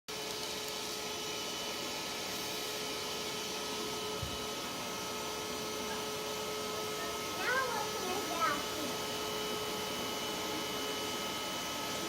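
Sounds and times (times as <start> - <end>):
vacuum cleaner running: 0.1 - 12.0.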